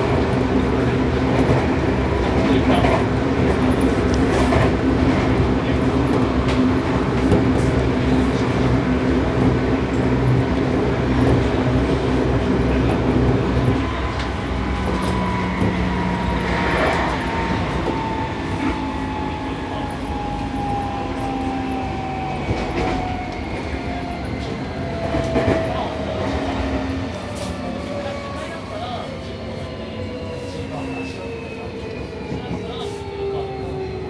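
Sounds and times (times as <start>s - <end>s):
train wheels on rails: 0.0s - 34.0s.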